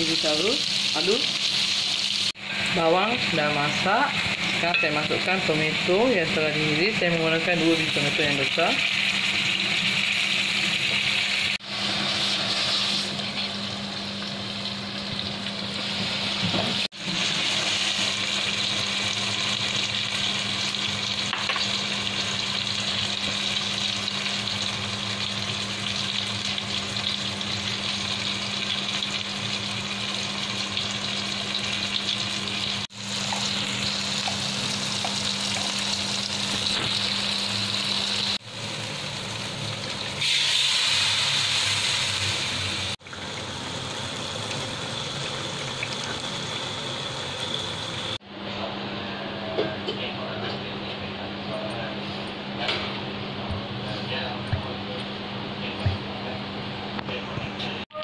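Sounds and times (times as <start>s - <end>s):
food sizzling in a wok: 0.0s - 48.2s.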